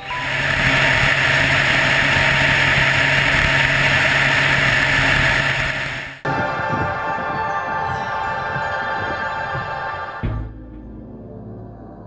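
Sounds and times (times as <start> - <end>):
rush of air noise: 0.0 - 10.0
aircraft engine hum: 0.0 - 12.0.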